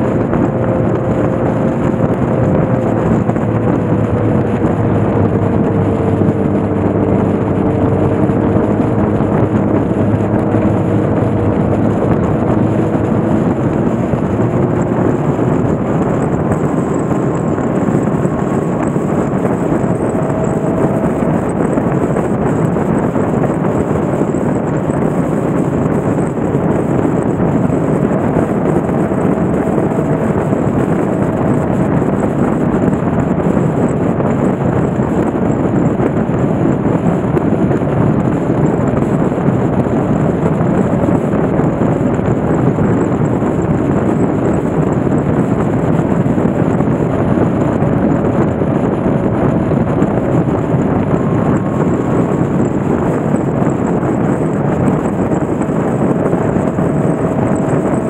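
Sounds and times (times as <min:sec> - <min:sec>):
motorcycle engine drone: 0:00.0 - 0:58.0
wind rushing over microphone: 0:00.0 - 0:58.0.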